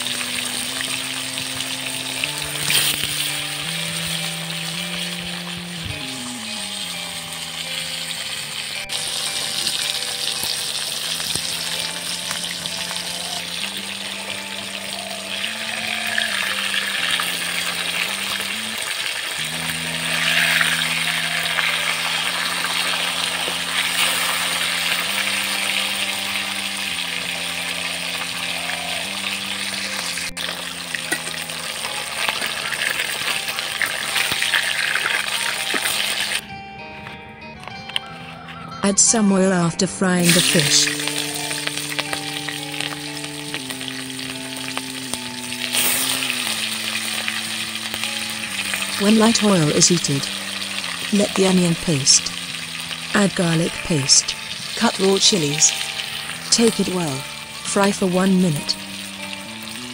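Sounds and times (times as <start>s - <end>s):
fish sizzling in hot oil: 0.0s - 36.5s, 40.2s - 59.9s
background music: 0.0s - 59.9s.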